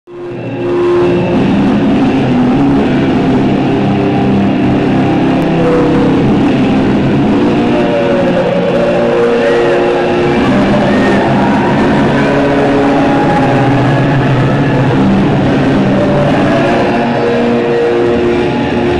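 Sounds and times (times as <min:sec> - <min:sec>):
entrance music over speakers: 0:00.1 - 0:18.9.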